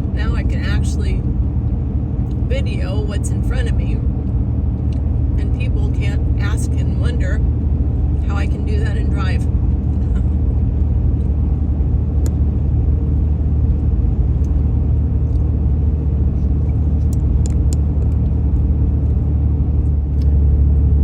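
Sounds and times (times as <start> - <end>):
road noise: 0.0 - 21.0
vehicle engine drone: 0.0 - 21.0.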